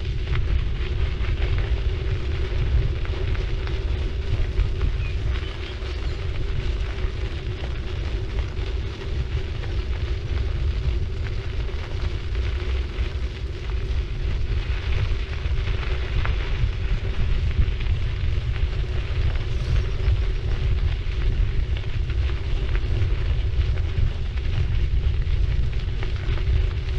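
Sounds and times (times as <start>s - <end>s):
bicycle tyres crunching on road: 0.0s - 26.9s
low hum: 0.0s - 26.9s
wind rumble on microphone: 0.0s - 26.9s.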